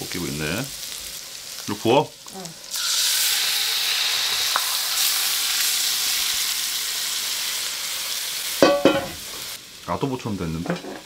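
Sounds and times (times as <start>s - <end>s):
food sizzling in a hot wok: 0.0s - 11.0s.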